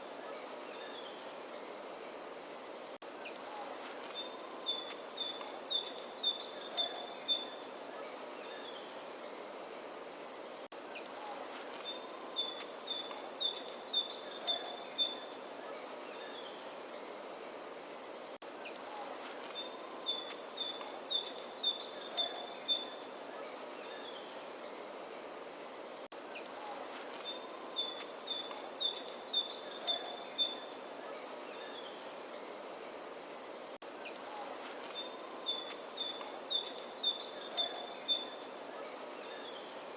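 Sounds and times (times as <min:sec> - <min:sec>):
outdoor hiss: 0:00.0 - 0:39.9
songbird singing: 0:00.0 - 0:39.9.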